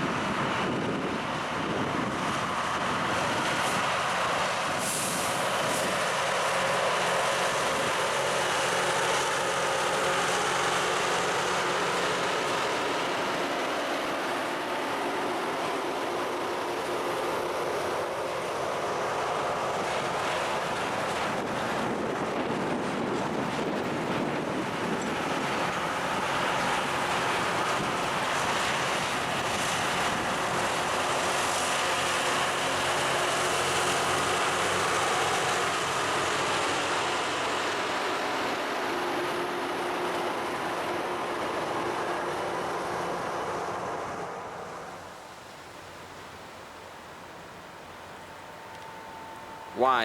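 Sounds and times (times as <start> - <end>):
diesel engines droning: 0.0 - 50.0.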